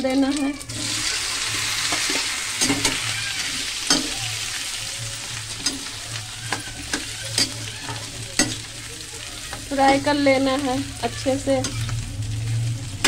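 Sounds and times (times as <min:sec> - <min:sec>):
potatoes sizzling in hot oil: 0:00.0 - 0:13.0
metal spoon scraping a pan: 0:00.2 - 0:12.0.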